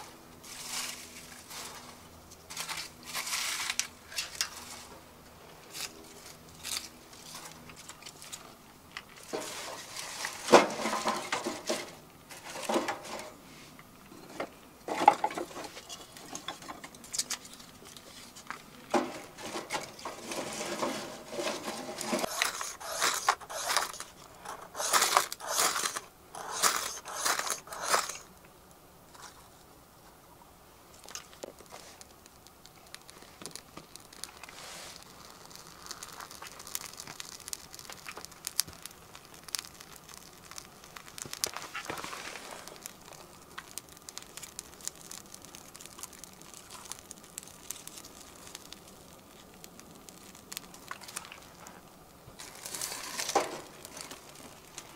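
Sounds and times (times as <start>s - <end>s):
rustling and scraping handling: 0.0s - 28.3s, 31.0s - 54.9s.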